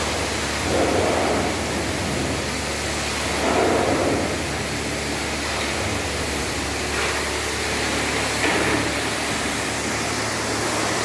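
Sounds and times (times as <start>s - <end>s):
car wash sprayer hissing: 0.0s - 11.0s
low machine hum: 0.0s - 11.0s.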